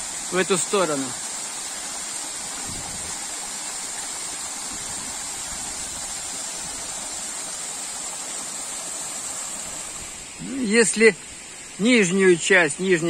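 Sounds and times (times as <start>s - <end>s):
waterfall rushing onto rocks: 0.0s - 13.0s.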